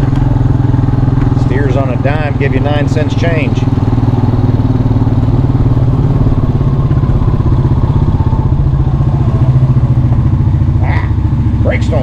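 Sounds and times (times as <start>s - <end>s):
atv engine running steadily: 0.0s - 12.0s.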